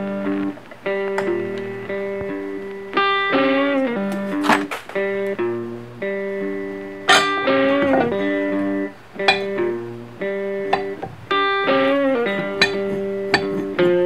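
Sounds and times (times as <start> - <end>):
guitar sliding notes: 0.0 - 14.0.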